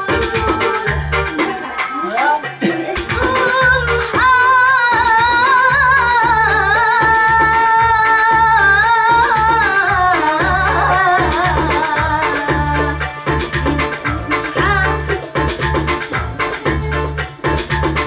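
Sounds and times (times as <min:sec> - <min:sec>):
low rhythmic beat: 0:00.0 - 0:18.0.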